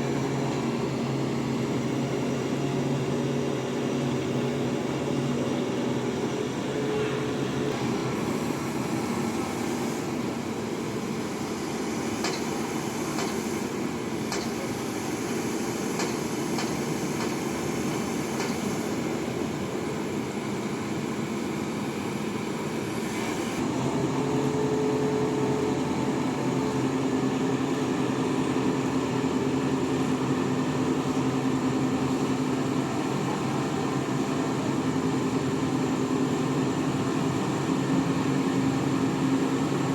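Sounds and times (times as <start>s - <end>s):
heavy crane engine running: 0.0s - 39.9s.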